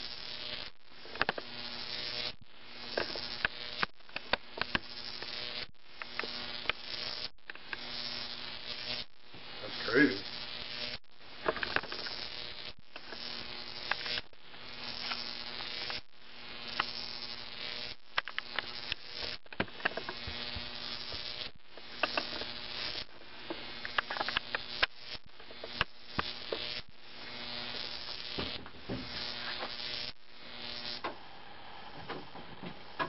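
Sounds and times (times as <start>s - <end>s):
high-voltage arc buzzing and crackling: 0.0s - 33.0s.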